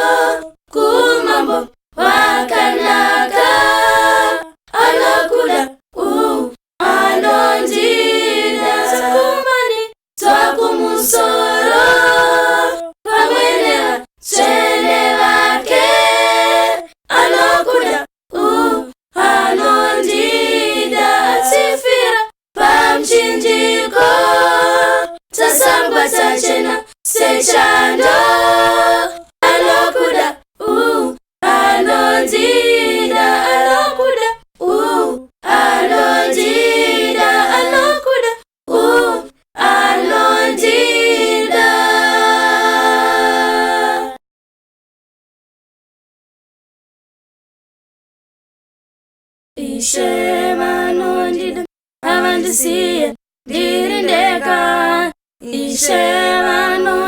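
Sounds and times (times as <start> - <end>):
a cappella group singing hymn: 0.0 - 44.2, 49.6 - 57.0.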